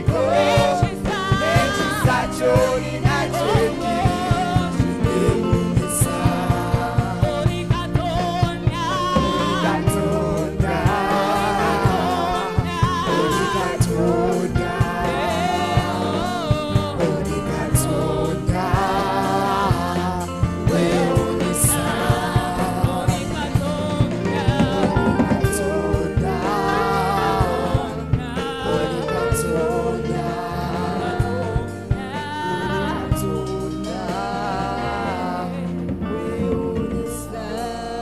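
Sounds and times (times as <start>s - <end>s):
steady drum beat: 0.0s - 37.9s
band playing: 0.0s - 38.0s
singers with microphones: 0.0s - 38.0s.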